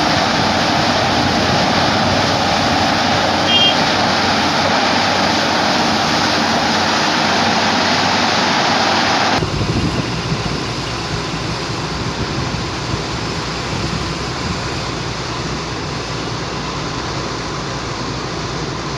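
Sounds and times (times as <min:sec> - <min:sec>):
loud rushing noise: 0:00.0 - 0:16.4
excavator diesel engine: 0:00.0 - 0:18.9.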